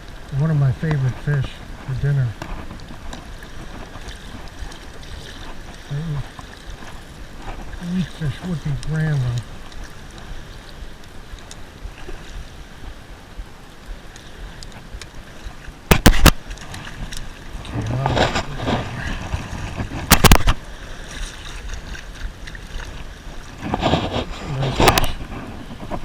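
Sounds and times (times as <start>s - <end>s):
water splashing and lapping: 0.0s - 26.0s
wind noise on microphone: 0.8s - 26.0s.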